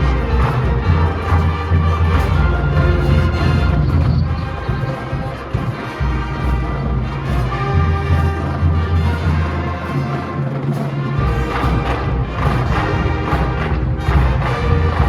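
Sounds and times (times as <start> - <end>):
low bass notes: 0.0 - 10.1, 11.2 - 15.0
drums: 0.0 - 15.0
marching band playing: 0.0 - 15.0.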